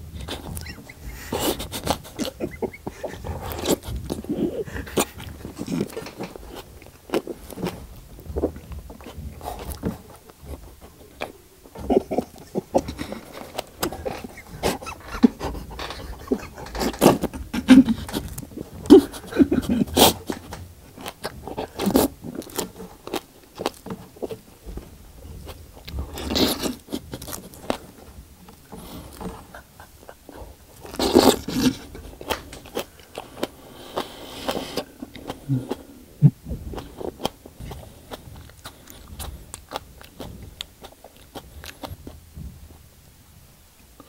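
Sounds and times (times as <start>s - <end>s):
slurping: 0.0s - 24.6s, 25.4s - 42.0s
wet mouth chewing sounds: 0.0s - 42.8s.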